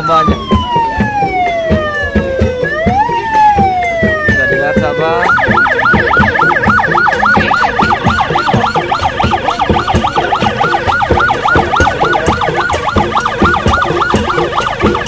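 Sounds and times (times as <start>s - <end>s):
electronic siren yelping: 0.0s - 15.0s.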